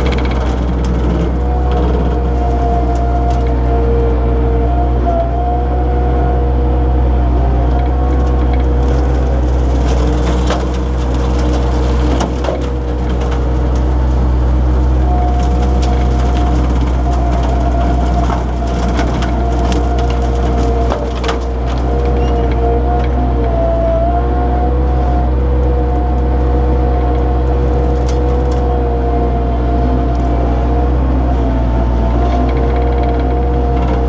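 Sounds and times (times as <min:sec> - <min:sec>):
skid steer engine running: 0:00.0 - 0:34.0.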